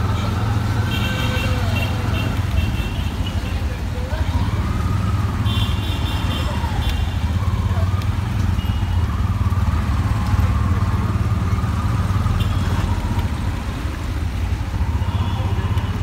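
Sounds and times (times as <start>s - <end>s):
auto rickshaw engine chugging: 0.0s - 16.0s.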